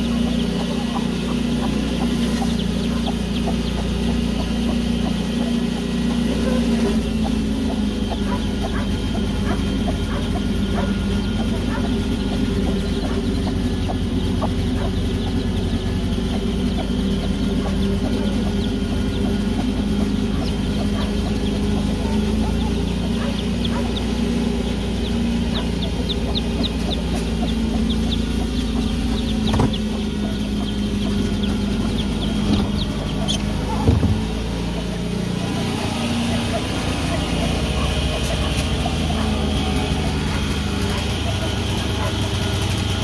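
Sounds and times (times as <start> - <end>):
chicks peeping: 0.0 - 43.0
hen clucking: 0.0 - 43.0
steady low hum: 0.0 - 43.0.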